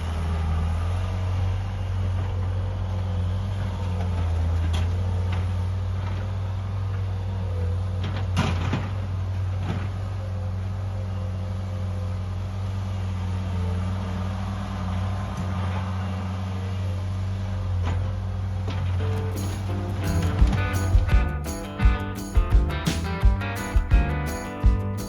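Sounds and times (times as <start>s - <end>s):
engine humming steadily: 0.0s - 25.0s.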